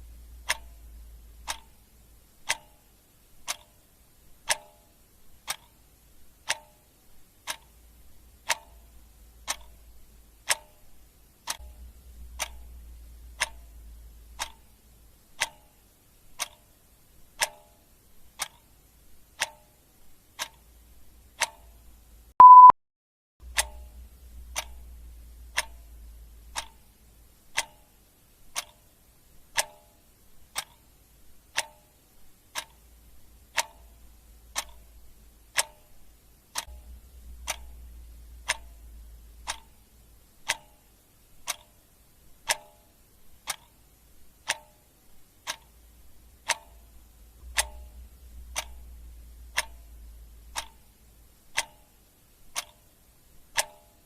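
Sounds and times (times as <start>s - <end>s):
clock ticking: 0.0s - 22.7s, 23.4s - 54.0s.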